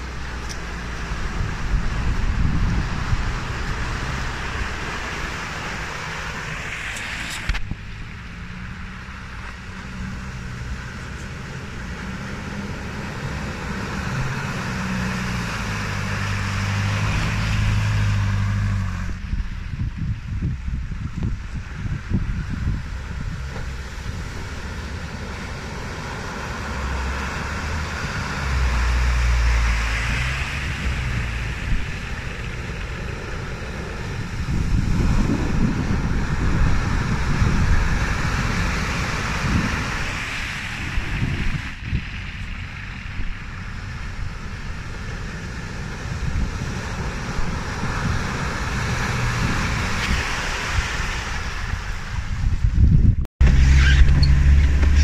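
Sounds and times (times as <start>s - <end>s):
wind buffeting microphone: 0.0s - 6.4s, 7.4s - 55.0s
steady rushing noise: 0.0s - 55.0s
vehicle engine rumble: 0.0s - 55.0s.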